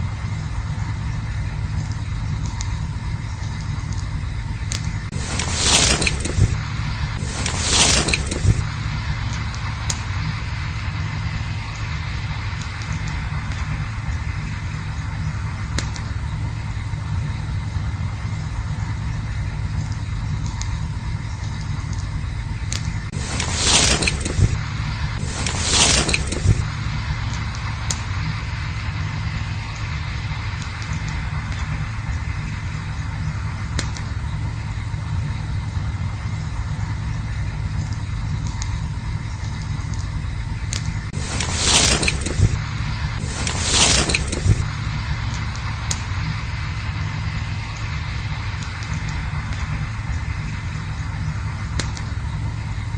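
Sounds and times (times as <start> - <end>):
campfire rumble: 0.0 - 52.9
fire crackles: 0.0 - 52.9
fire rushing hiss: 0.0 - 52.9.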